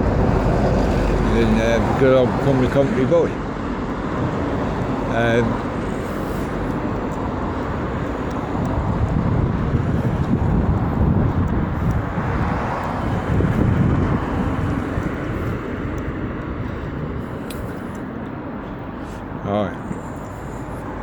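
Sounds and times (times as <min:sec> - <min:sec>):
outdoor low rumble: 0:00.0 - 0:21.0.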